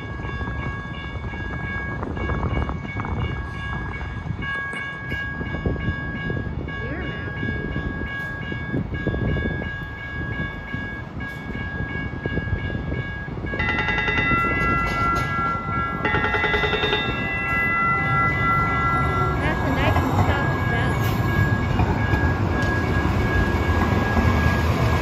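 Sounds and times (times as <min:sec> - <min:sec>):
rapid multi-tone ringing: 0:00.0 - 0:25.0
steady high tone: 0:00.0 - 0:25.0
train arriving: 0:00.0 - 0:25.0.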